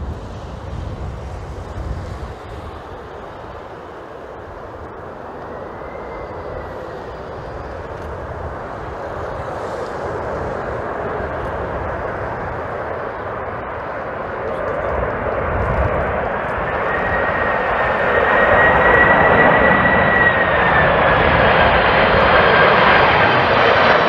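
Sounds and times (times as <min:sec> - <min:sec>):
jet airliner engine rushing: 0:00.0 - 0:24.0
wind rumbling on microphone: 0:00.0 - 0:24.0.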